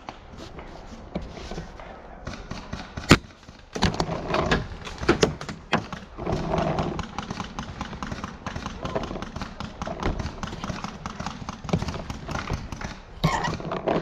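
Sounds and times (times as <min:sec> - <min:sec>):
rustling: 0:00.0 - 0:14.0
sharp knocks and cracks: 0:02.2 - 0:14.0.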